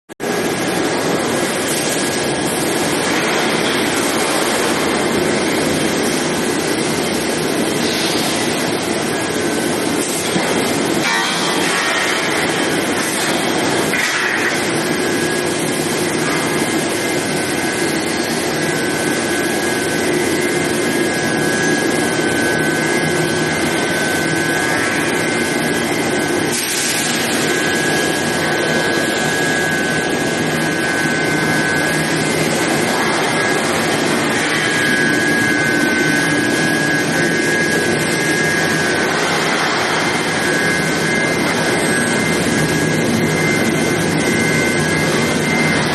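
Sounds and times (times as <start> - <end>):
high machine whine: 0.2 - 45.9.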